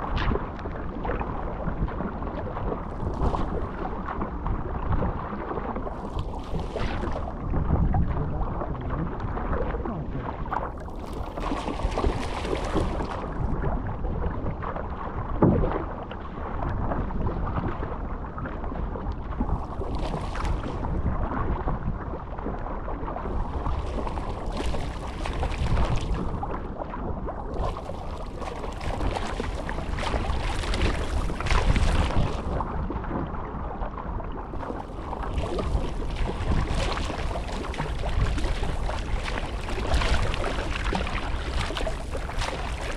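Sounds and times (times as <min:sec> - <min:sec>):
water rushing along a hull: 0:00.0 - 0:42.9
wind rumble on microphone: 0:00.0 - 0:42.9.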